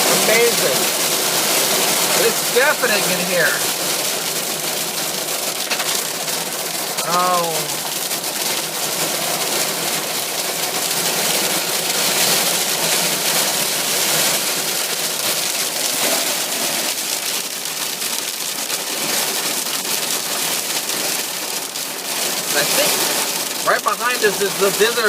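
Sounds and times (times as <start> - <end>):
hail and rain on car roof: 0.0 - 25.0.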